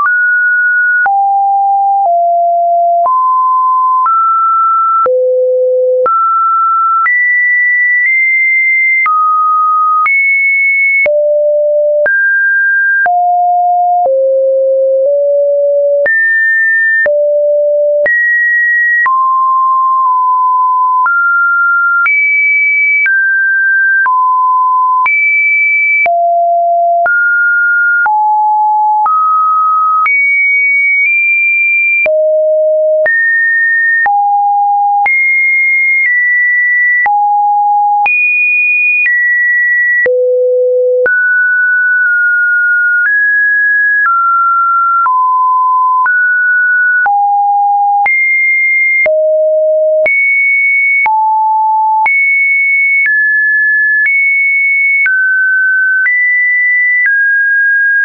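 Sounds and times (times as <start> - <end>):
sine-wave test tone beeps: 0.0 - 58.0.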